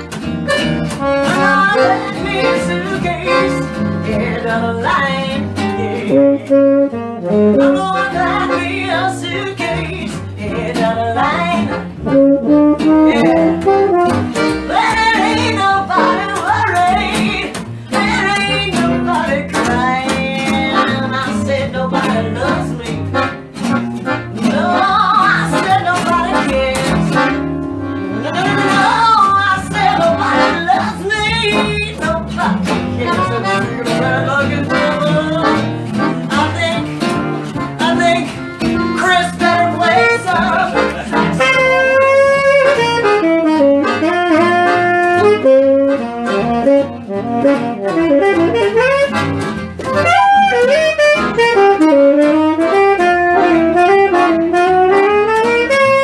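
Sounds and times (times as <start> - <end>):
tenor saxophone: 0.0 - 4.2, 5.1 - 10.1, 10.8 - 31.9, 32.9 - 56.0
accordion: 0.0 - 56.0
electric guitar: 0.0 - 56.0
upright double bass: 0.0 - 56.0.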